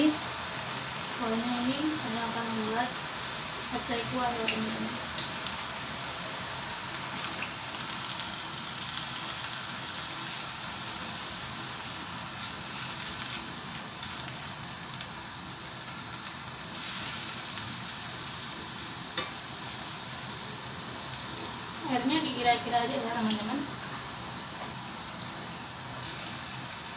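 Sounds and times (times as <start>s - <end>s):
food sizzling in a wok: 0.0s - 26.9s.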